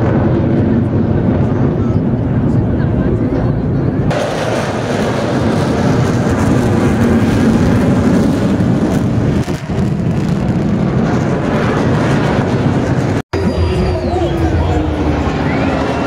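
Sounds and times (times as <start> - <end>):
heavy engines rumbling: 0.0 - 16.0.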